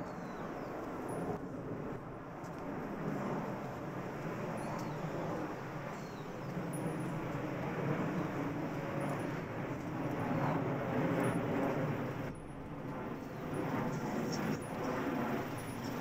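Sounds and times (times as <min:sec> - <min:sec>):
city street rumble and hiss: 0:00.0 - 0:16.0.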